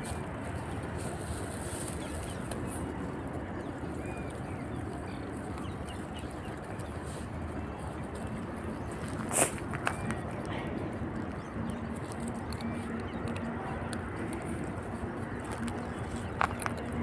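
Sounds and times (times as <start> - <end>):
low background rumble: 0.0 - 17.0
puppies chewing food: 0.0 - 17.0.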